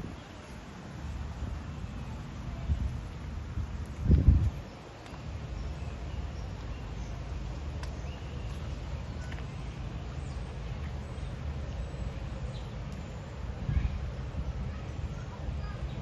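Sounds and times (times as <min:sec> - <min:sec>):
outdoor background rumble: 0:00.0 - 0:16.0.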